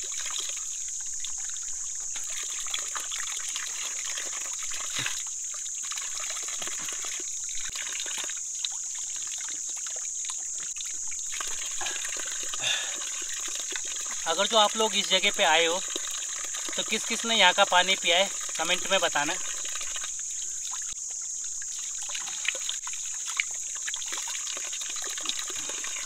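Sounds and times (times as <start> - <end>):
insect buzz: 0.0 - 26.0
water trickling and splattering: 0.0 - 26.0.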